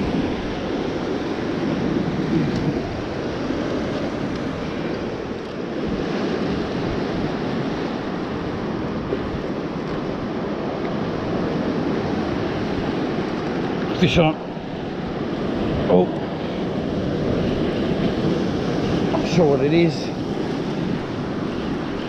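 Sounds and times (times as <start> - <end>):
surf washing over rocks: 0.0 - 22.0
wind buffeting microphone: 0.0 - 22.0.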